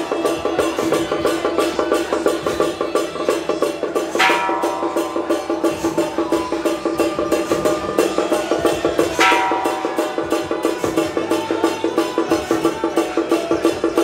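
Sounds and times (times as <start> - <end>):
woodblock-like percussion beat: 0.0 - 14.0.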